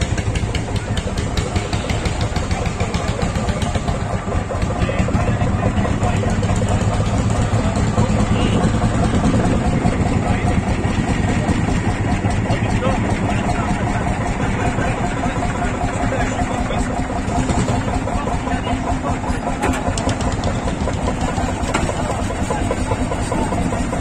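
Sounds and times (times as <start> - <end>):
tractor engines idling: 0.0 - 24.0.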